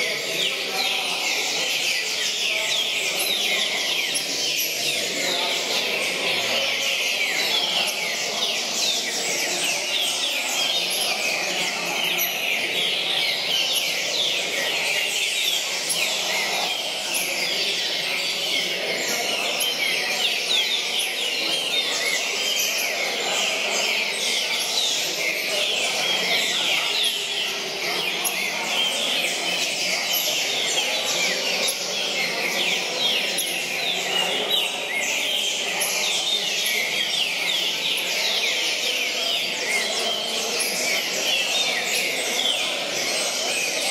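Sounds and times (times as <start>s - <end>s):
chorus of songbirds whistling: 0.0s - 43.9s.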